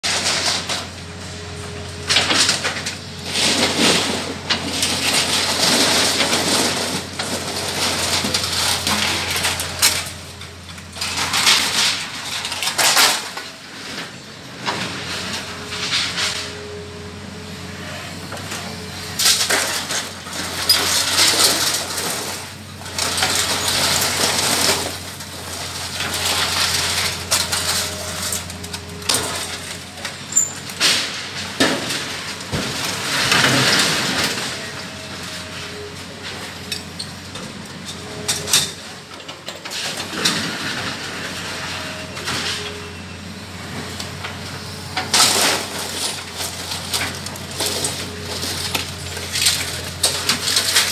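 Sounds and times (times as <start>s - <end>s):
scrap iron clattering and crashing: 0.0s - 16.6s, 17.8s - 50.9s
excavator engine humming: 0.0s - 50.9s.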